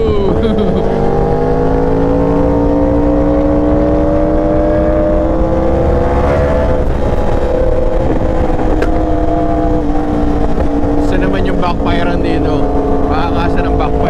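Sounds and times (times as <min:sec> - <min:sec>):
motorcycle engine at high revs: 0:00.0 - 0:14.0
rushing wind noise: 0:00.0 - 0:14.0.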